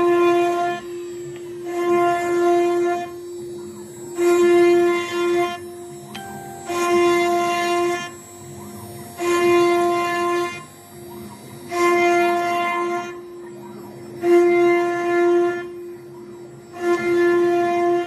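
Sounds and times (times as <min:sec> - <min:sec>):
cnc router whining: 0:00.0 - 0:18.0.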